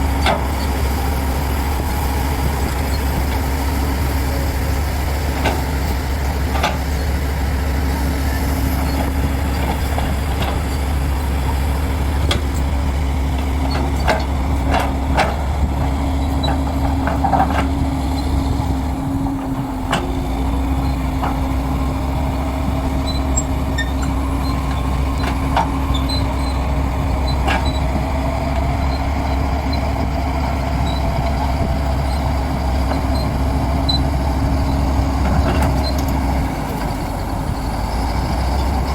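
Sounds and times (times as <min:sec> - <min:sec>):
heavy machine diesel engine running: 0:00.0 - 0:38.9.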